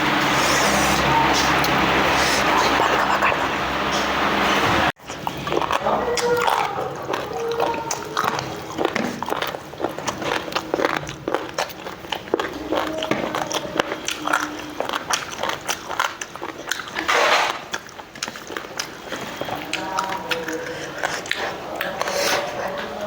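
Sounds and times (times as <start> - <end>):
chewing rice: 0.0 - 23.0.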